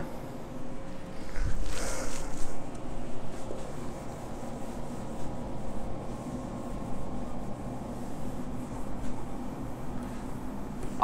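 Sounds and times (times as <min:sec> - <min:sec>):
room hum: 0:00.0 - 0:11.0
eraser rubbing whiteboard: 0:01.0 - 0:11.0.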